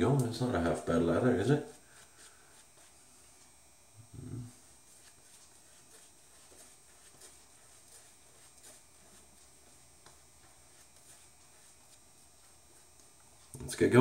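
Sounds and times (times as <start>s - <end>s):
shaving brush scratching lather: 0.4s - 14.0s.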